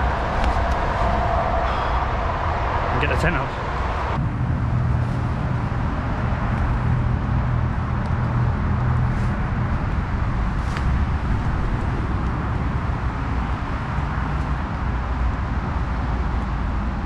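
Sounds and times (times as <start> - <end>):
road traffic drone: 0.0 - 17.0.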